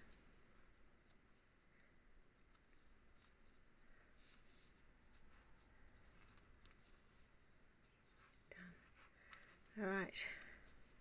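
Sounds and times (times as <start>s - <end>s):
faint yarn rustling: 0.0s - 11.0s.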